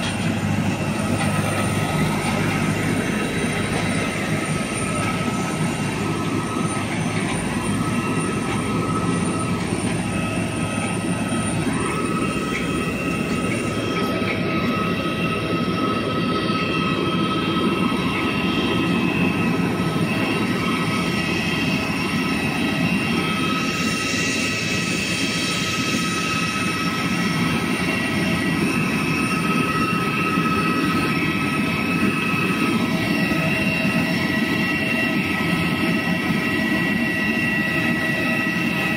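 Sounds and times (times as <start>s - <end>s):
high whining tones: 0.0s - 38.9s
turbine aircraft roar: 0.0s - 38.9s.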